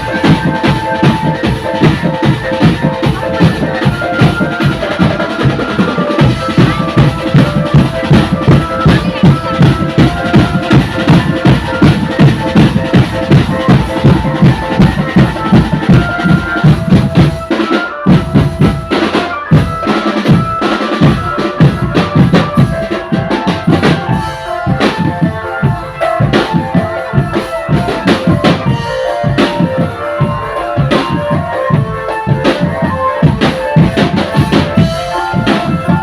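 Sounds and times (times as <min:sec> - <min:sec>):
bass drums beating: 0:00.0 - 0:36.0
melody line: 0:00.0 - 0:36.0
snare drums beating: 0:00.0 - 0:36.0.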